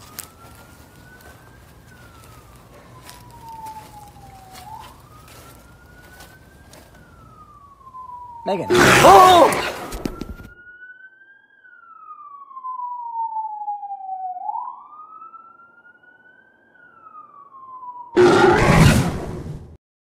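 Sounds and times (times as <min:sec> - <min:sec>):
emergency siren wailing: 0:00.0 - 0:19.6.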